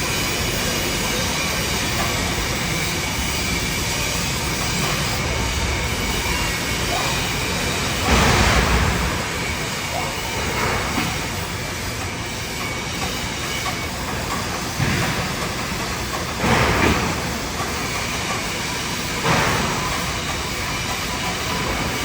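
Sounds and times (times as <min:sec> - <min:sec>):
welding arc hissing: 0:00.0 - 0:22.0.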